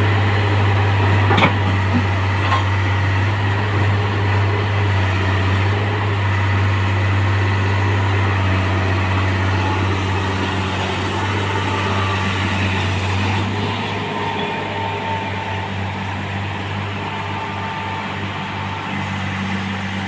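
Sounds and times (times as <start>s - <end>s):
machine engine droning: 0.0s - 20.0s.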